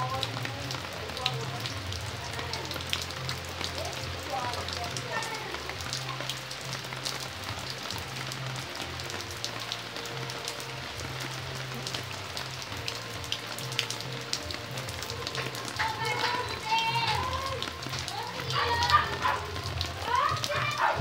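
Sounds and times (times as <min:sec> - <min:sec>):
rain on leaves and paving: 0:00.0 - 0:21.0.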